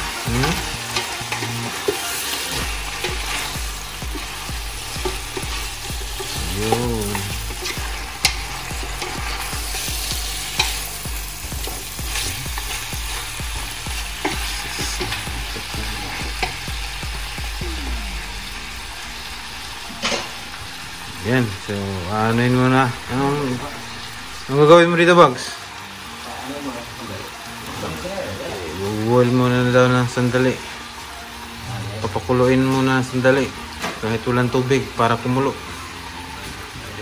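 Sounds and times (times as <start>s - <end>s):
meat sizzling in a pan: 0.0s - 37.0s.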